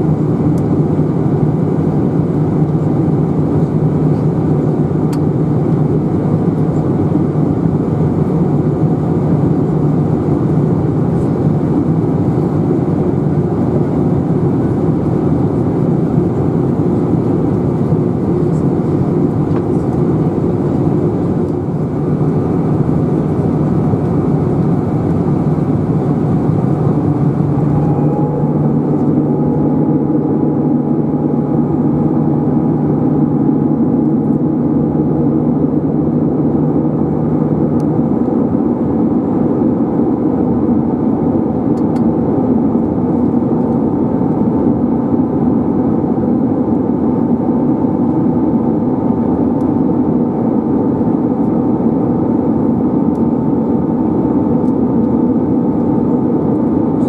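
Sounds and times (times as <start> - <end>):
airplane cabin engine drone: 0.0 - 57.0
low hum: 0.0 - 57.0
mid-pitched hum: 0.0 - 57.0.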